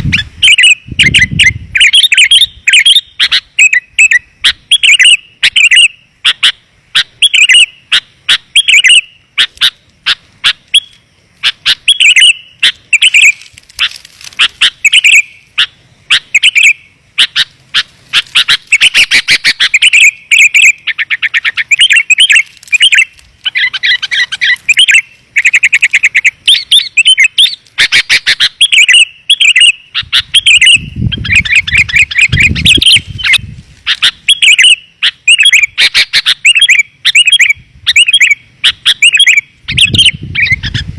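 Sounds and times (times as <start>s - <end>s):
birds chattering trills: 0.0s - 40.9s
birds chirping: 0.0s - 40.9s.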